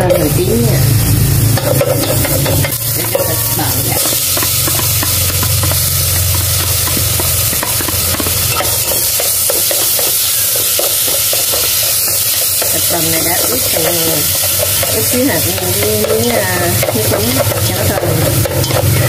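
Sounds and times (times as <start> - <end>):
shallots sizzling in hot oil: 0.0 - 19.0.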